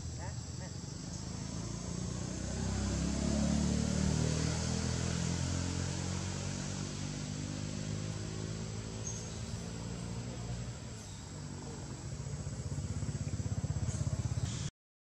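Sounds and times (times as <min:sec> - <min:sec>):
vehicle engine running: 0:00.0 - 0:14.7.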